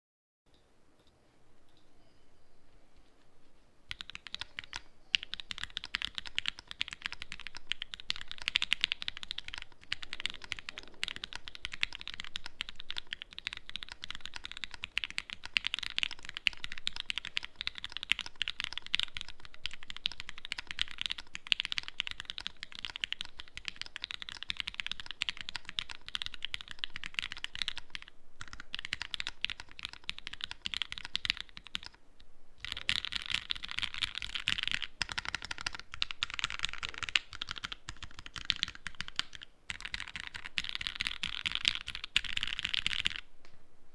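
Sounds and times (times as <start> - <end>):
typing on mechanical keyboard: 3.9 - 32.0, 32.6 - 43.3.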